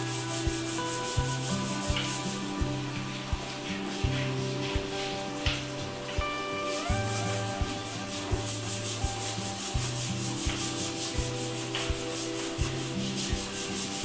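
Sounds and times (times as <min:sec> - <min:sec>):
rapid scrubbing: 0:00.0 - 0:14.0
soft background music: 0:00.0 - 0:14.0.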